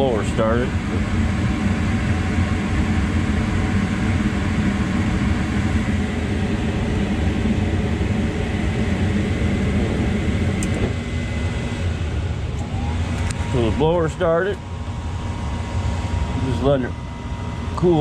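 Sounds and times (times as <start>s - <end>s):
gas furnace blower rushing: 0.0s - 18.0s.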